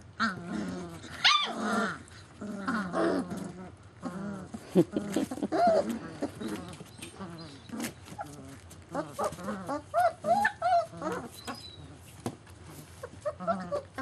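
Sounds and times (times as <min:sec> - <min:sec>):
puppies yipping and whining: 0:00.3 - 0:14.0.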